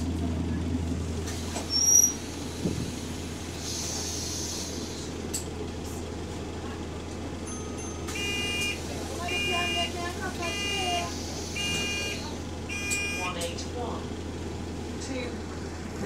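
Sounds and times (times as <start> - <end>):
bus engine hum: 0.0 - 16.0.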